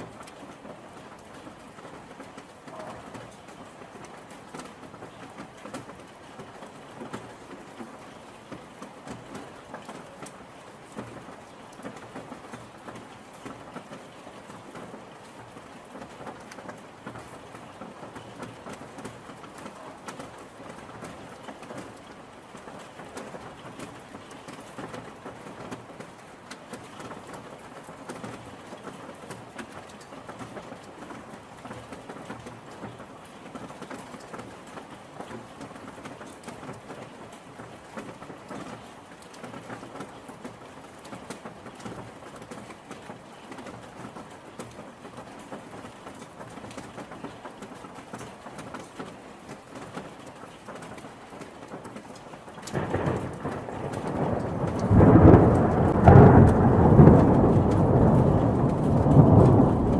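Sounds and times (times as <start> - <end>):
rain patter: 0.0 - 59.9.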